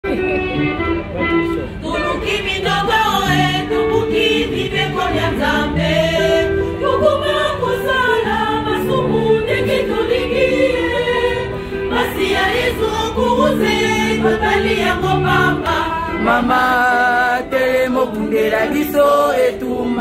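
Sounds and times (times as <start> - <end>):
choir singing unaccompanied: 1.8 - 20.0.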